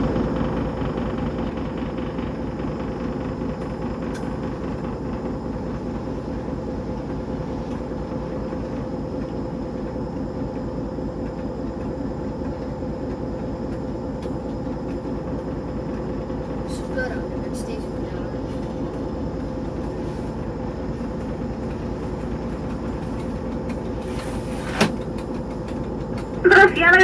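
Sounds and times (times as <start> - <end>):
diesel locomotive engine droning: 0.0 - 27.0.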